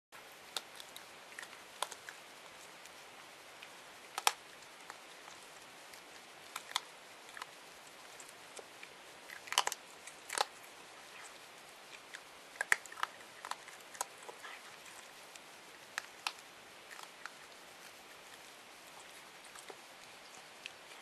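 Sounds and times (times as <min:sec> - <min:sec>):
animal crunching dry food: 0:00.5 - 0:03.0, 0:03.6 - 0:21.0.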